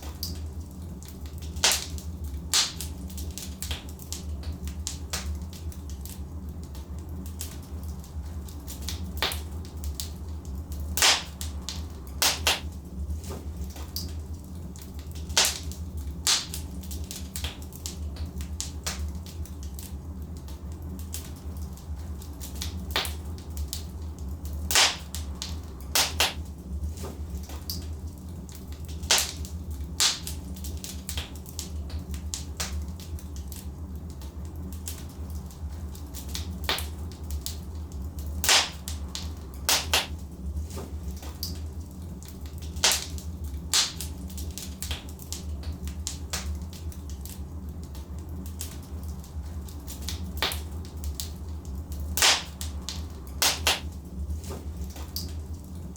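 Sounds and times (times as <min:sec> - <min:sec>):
logs crackling in fireplace: 0:00.0 - 0:55.9
low steady rumble: 0:00.0 - 0:55.9.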